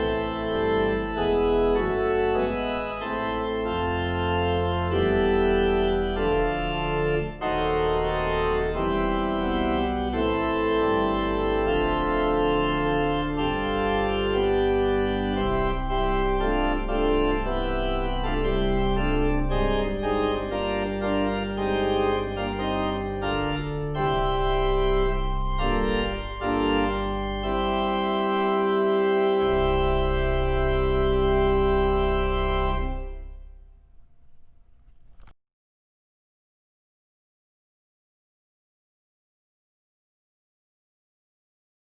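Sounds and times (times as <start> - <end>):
organ playing sustained chords: 0.0 - 35.3.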